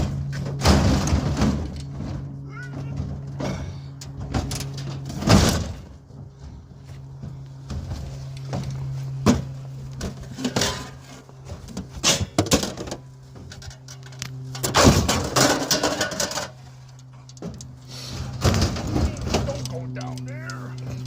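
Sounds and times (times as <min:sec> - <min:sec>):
scrap metal clattering and scraping: 0:00.0 - 0:20.1
steady low hum: 0:00.0 - 0:21.0.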